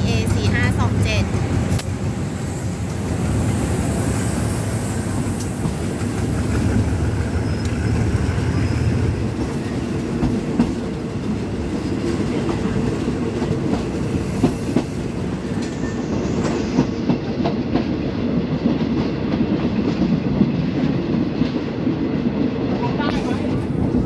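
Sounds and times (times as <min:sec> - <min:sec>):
passing passenger train: 0:00.0 - 0:24.0
train coaches rumbling on track: 0:00.0 - 0:24.0.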